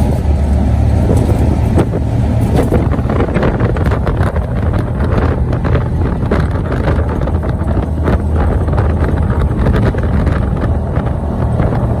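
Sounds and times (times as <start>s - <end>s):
low engine rumble: 0.0s - 12.0s
wind buffeting microphone: 0.0s - 12.0s.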